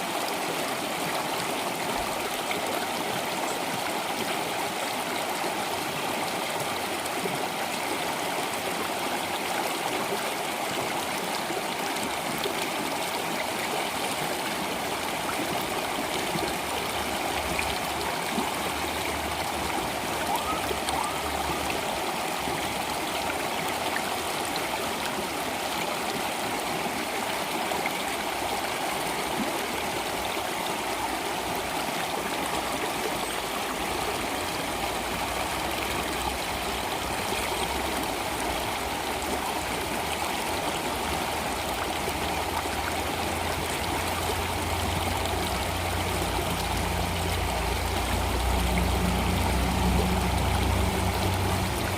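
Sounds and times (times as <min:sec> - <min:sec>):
flowing water rushing: 0:00.0 - 0:51.9.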